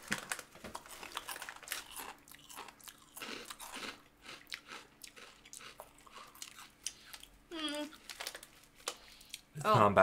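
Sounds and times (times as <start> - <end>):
chewing crunchy puffs: 0.7 - 9.5.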